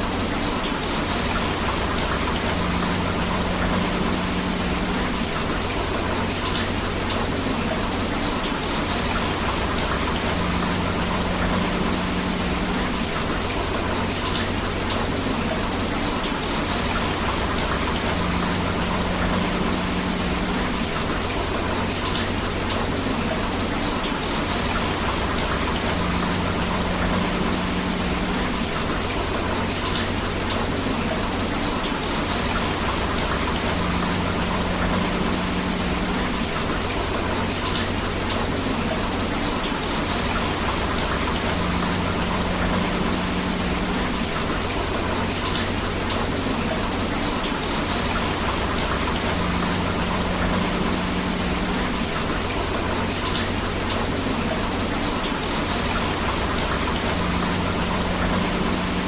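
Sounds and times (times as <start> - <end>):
flowing river water: 0.0 - 59.0
rain: 0.0 - 59.0.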